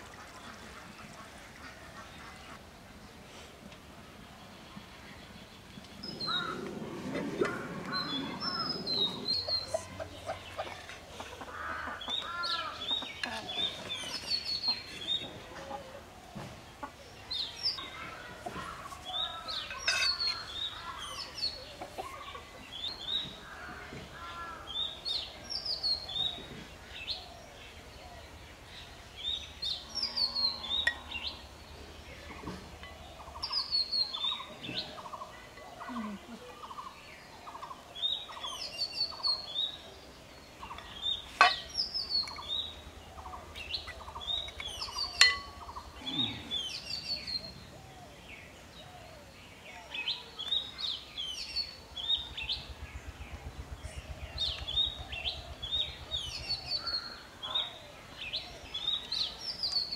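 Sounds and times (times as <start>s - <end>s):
birds chirping: 0.0s - 59.9s
lower bird calls: 4.4s - 59.9s.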